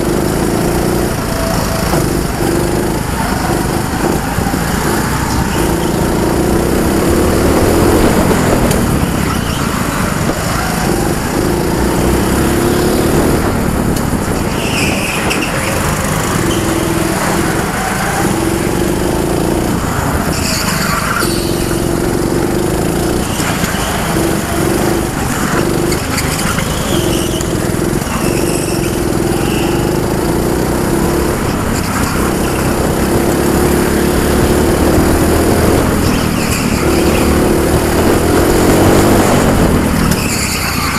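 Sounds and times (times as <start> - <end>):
go-kart engine running hard: 0.0 - 40.9
low rumble of kart on track: 0.0 - 40.9.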